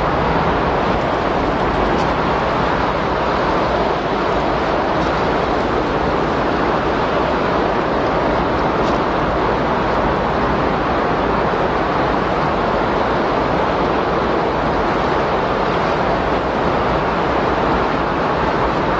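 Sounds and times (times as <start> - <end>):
loud rushing wind: 0.0 - 18.9.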